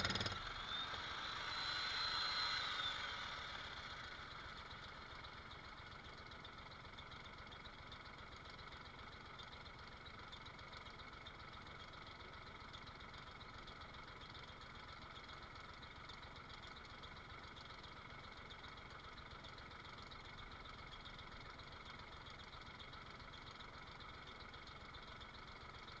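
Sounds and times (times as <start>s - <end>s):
faint engine idling: 0.0s - 26.0s.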